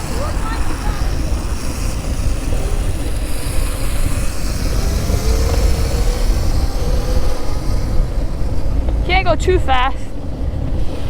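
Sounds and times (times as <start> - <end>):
electric motor whine: 0.0 - 11.0
wind rumbling on microphone: 0.0 - 11.0.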